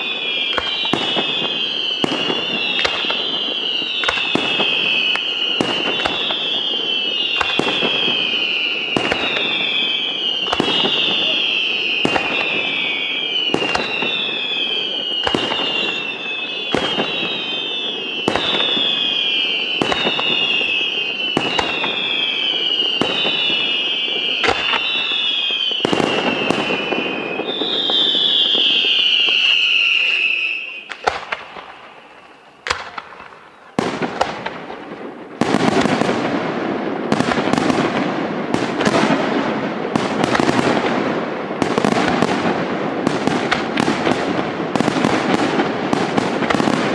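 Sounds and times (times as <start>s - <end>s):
crackling firework barrage: 0.0s - 46.9s
falling whistle of fireworks: 0.0s - 46.9s.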